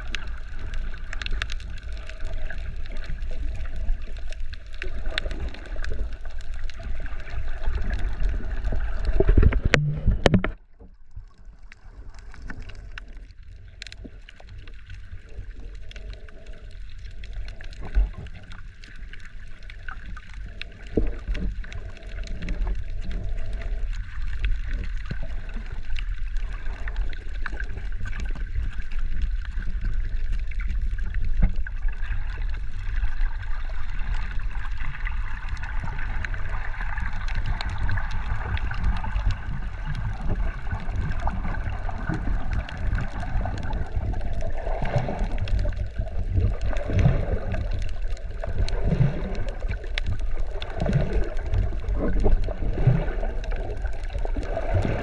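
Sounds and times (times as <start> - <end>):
sea water sloshing: 0.0 - 55.0.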